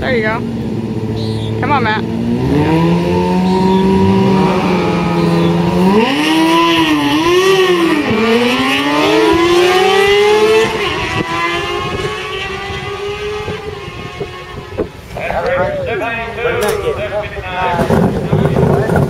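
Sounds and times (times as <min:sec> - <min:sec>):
motorcycle engine accelerating hard: 0:00.0 - 0:15.5, 0:17.6 - 0:19.0.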